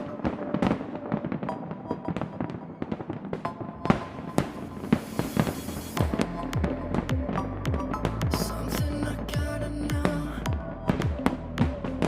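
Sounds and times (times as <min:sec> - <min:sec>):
fireworks bangs and crackling pops: 0:00.0 - 0:10.3.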